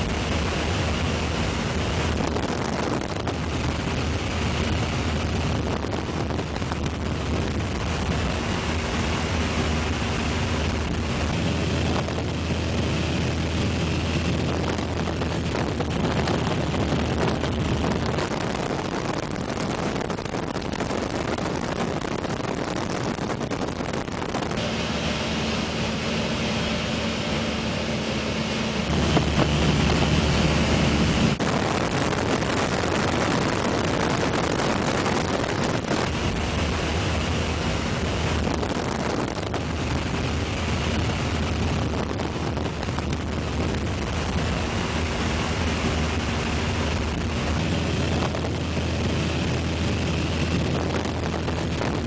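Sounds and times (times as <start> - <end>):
aircraft engine: 0.0 - 52.0
low hum: 0.0 - 52.0
wind noise: 0.0 - 52.0.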